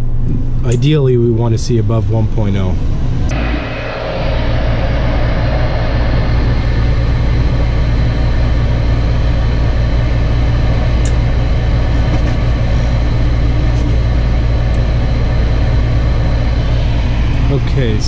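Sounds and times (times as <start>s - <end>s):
gas furnace low rumble: 0.0s - 18.0s.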